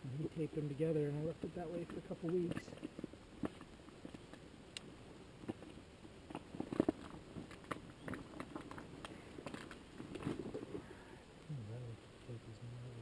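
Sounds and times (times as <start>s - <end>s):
crackling and clicking rustles: 0.6s - 11.5s.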